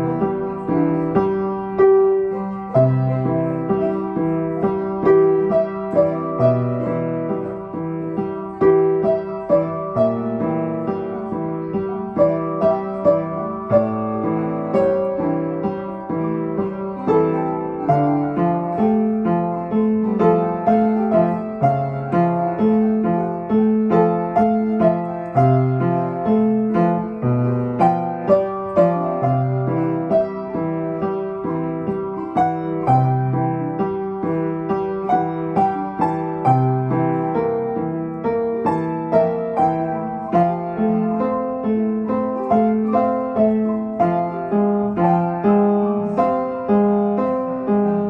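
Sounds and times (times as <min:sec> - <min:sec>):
piano piece: 0:00.0 - 0:48.0.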